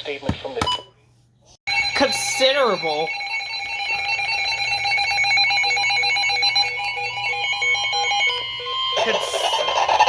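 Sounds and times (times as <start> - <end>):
pulsing electronic alarm beeps: 1.7 - 10.0.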